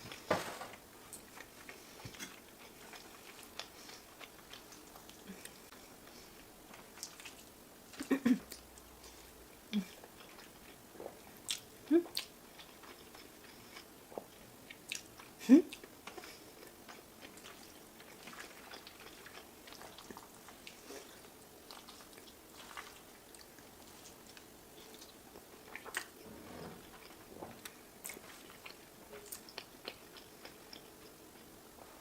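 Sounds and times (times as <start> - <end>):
chewing and wet mouth sounds: 0.1 - 32.0.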